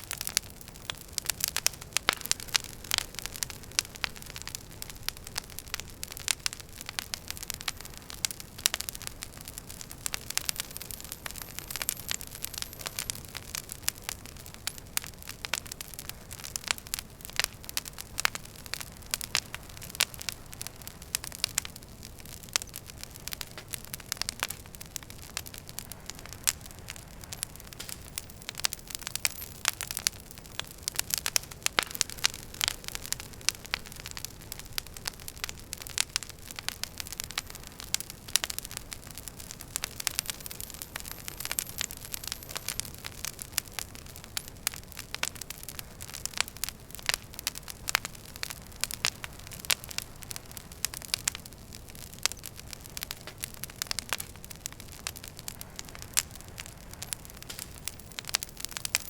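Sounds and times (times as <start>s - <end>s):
fire pops and snaps: 0.0s - 59.0s
low rumble of flames: 0.0s - 59.0s.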